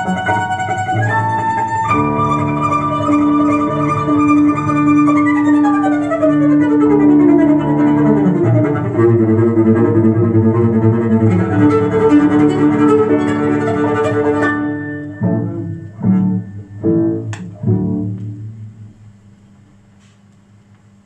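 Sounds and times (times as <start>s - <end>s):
cello music over loudspeakers: 0.0s - 18.8s.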